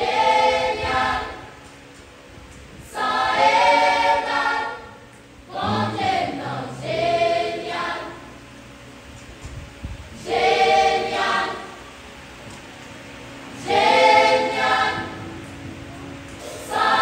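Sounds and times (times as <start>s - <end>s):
girls' choir singing gospel: 0.0s - 2.1s, 2.8s - 8.6s, 10.1s - 17.0s.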